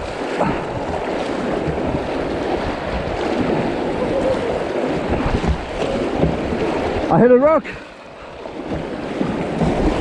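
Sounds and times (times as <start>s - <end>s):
river water rushing and splashing: 0.0s - 10.0s
wind buffeting microphone: 0.0s - 10.0s.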